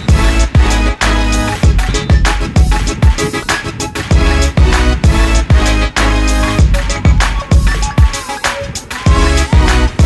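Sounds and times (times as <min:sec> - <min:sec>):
bass line: 0:00.0 - 0:08.2, 0:09.0 - 0:10.0
heavy drum beat: 0:00.0 - 0:10.0.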